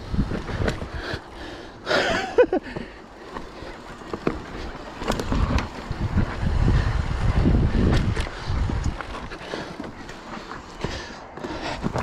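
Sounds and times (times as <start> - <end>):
bike clicks and rattles: 0.0 - 12.0
bike tyres on loose dirt: 0.0 - 12.0.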